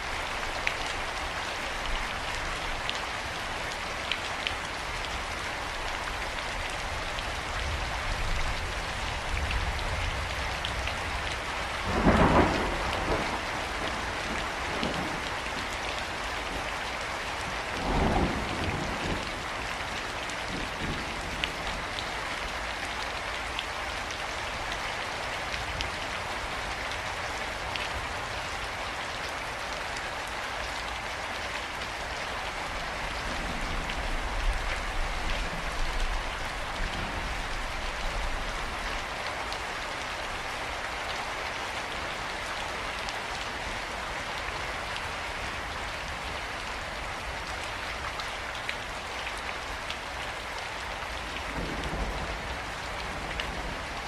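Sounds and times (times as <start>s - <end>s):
rain pouring: 0.0s - 54.0s.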